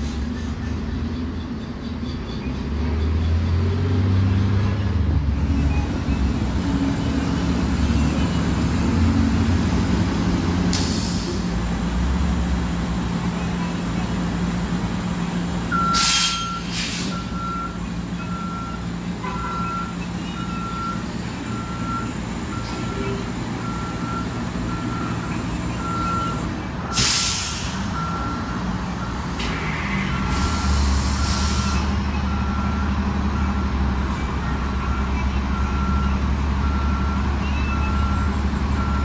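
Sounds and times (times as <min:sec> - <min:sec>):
bus engine idling: 0:05.4 - 0:39.0.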